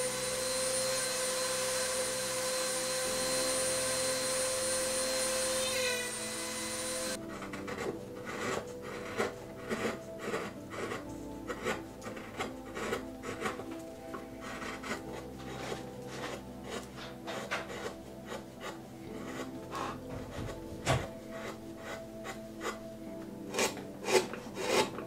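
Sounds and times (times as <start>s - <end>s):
chisel scraping into wood: 1.3s - 22.8s, 23.4s - 25.0s.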